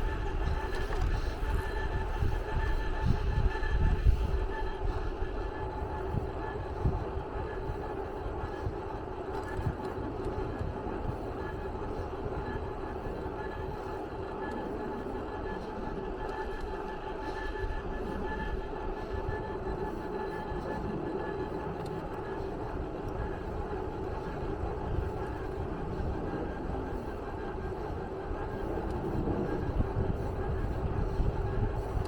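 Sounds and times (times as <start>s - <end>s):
constant hum: 0.0s - 32.0s
mechanical rumble: 0.0s - 32.0s.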